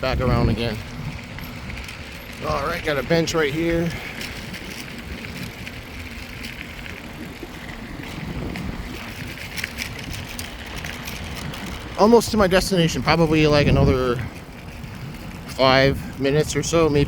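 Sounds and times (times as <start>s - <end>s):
bike tyre noise and rattle: 0.0s - 17.0s
wind rumbling on microphone: 0.0s - 17.0s.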